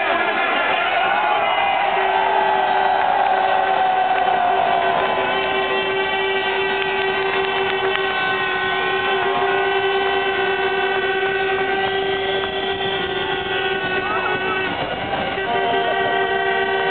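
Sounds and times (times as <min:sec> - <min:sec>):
crowd roar: 0:00.0 - 0:16.9
stadium horns droning: 0:00.0 - 0:16.9.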